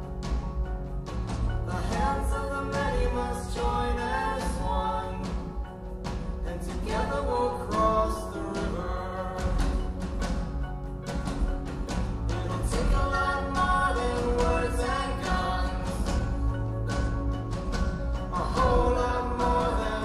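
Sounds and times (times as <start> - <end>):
steady drum beat: 0.0 - 20.0
person singing: 1.6 - 10.6, 12.2 - 20.0.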